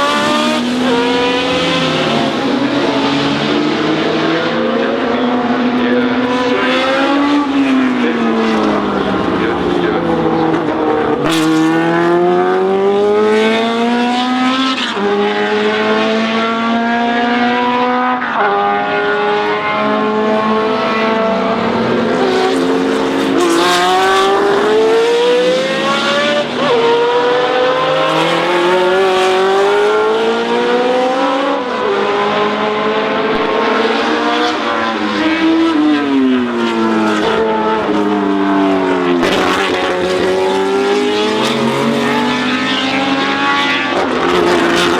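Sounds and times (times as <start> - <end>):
racing engine accelerating: 0.0 - 44.9.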